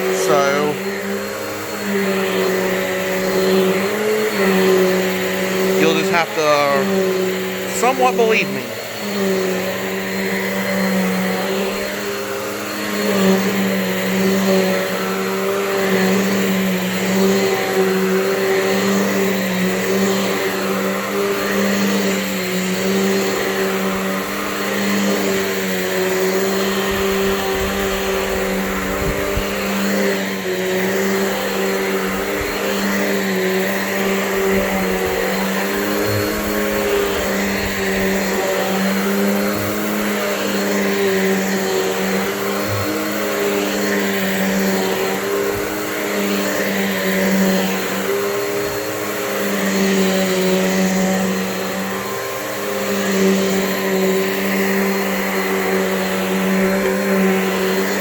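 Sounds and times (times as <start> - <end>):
vacuum cleaner running over carpet: 0.0 - 58.0.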